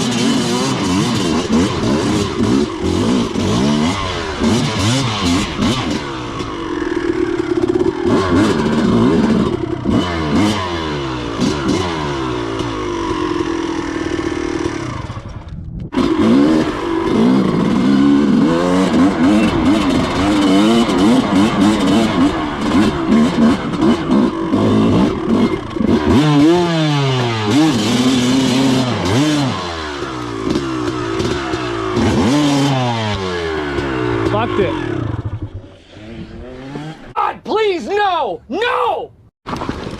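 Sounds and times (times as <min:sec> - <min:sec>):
dirt bike engine revving: 0:00.0 - 0:37.2.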